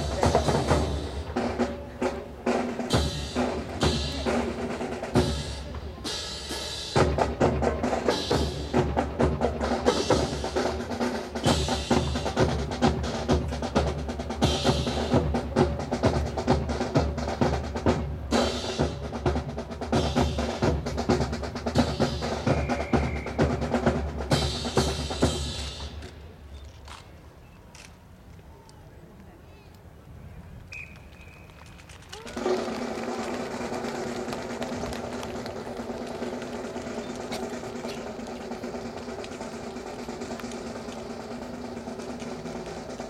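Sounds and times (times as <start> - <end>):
snare and bass drum cadence: 0.0 - 26.1, 32.2 - 43.0.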